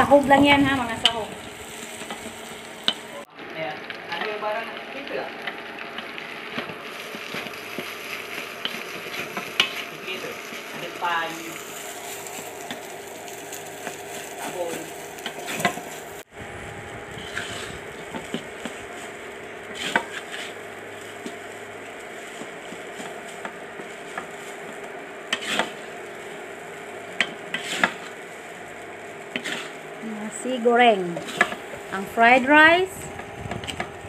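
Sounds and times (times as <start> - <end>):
rice sizzling in wok: 0.0 - 34.0
wooden spatula scraping wok: 0.1 - 16.3, 17.1 - 34.0.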